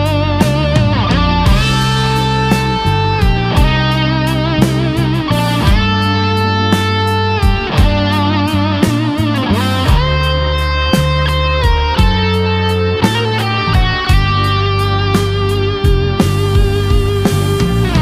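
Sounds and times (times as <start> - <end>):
electric guitar lead: 0.0 - 18.0
rock music: 0.0 - 18.0.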